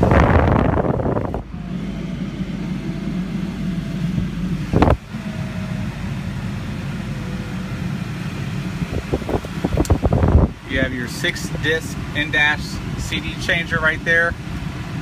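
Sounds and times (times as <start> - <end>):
car engine idling: 0.0 - 15.0
fan blowing: 0.0 - 15.0.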